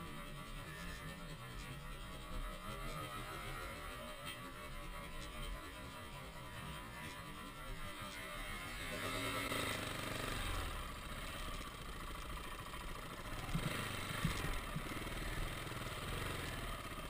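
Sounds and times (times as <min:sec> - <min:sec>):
dirt bike engine at low revs: 0:00.0 - 0:17.0.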